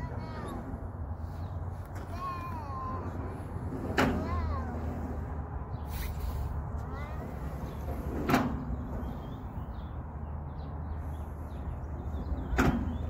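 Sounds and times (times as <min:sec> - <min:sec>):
steady low rumble: 0:00.0 - 0:13.0
swing pivots creaking: 0:00.0 - 0:13.0.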